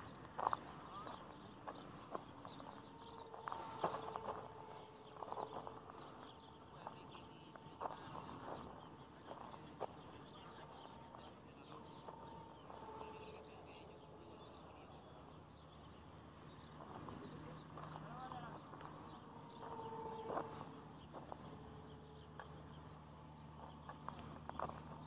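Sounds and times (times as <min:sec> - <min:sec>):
distant birds chirping: 0:00.0 - 0:25.0
faint steady whine: 0:00.0 - 0:25.0
insects chirping: 0:00.0 - 0:25.0.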